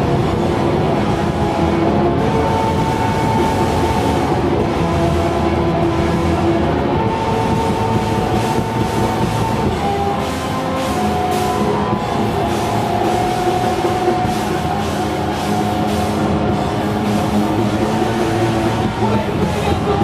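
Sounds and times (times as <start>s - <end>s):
live heavy metal band playing: 0.0s - 20.0s.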